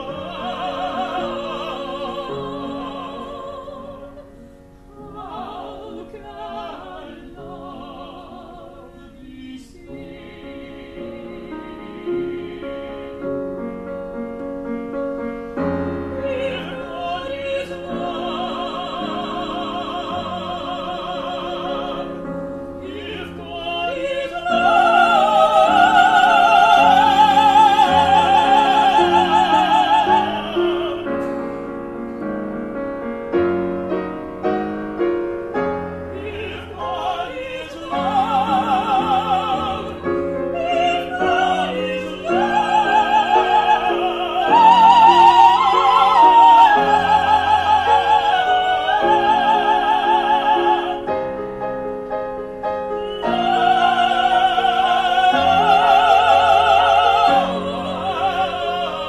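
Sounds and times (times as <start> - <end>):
piano: 0.0 - 59.0
soprano and tenor singing opera: 0.0 - 59.0.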